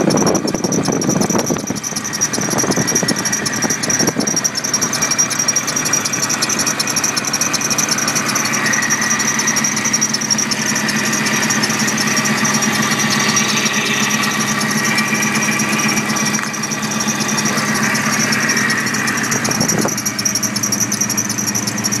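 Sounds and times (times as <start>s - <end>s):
drive belt squealing: 0.0s - 22.0s
engine running: 0.0s - 22.0s.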